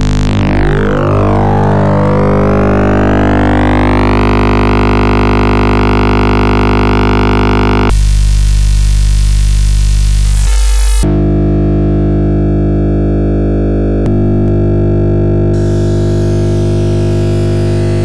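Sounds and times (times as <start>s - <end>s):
buzzing synthesizer drone: 0.0s - 18.0s.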